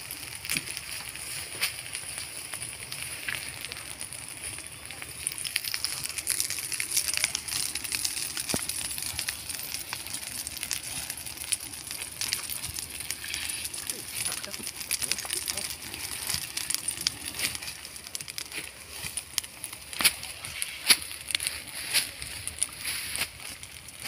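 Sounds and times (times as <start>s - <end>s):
brush fire crackling: 0.0s - 24.0s.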